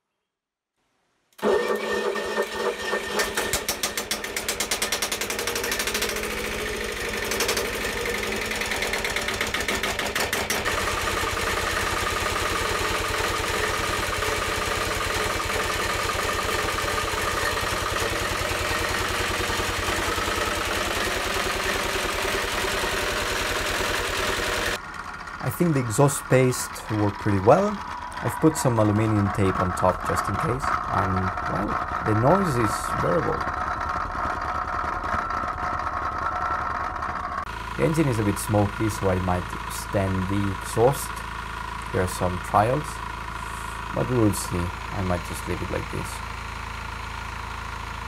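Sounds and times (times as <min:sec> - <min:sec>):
diesel engine running: 0:01.4 - 0:48.0
starter motor cranking: 0:01.4 - 0:48.0.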